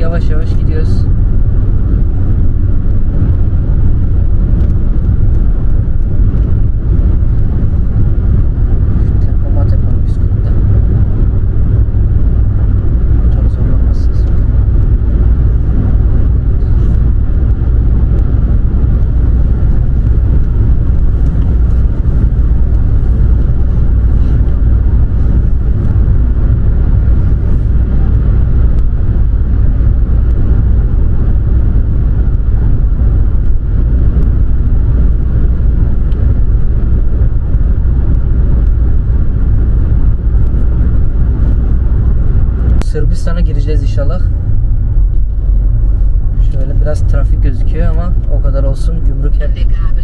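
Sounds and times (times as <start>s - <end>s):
car road and engine rumble: 0.0s - 50.0s.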